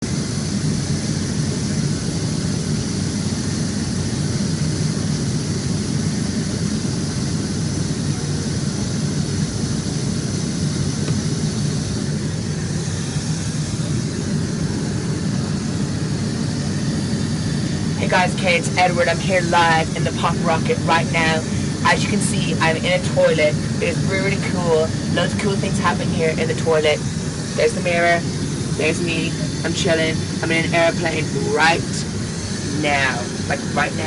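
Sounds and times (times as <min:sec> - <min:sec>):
airplane cabin engine rumble: 0:00.0 - 0:34.0
airflow hiss: 0:00.2 - 0:34.0.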